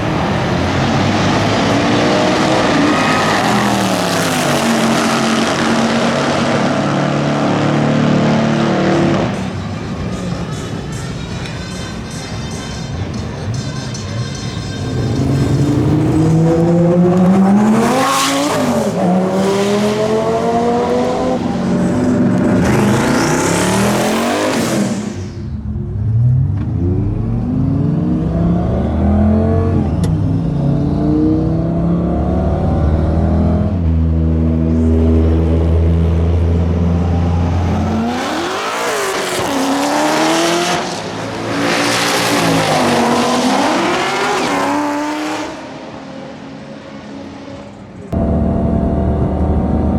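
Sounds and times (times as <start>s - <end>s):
race car engines at full throttle: 0.0s - 49.9s.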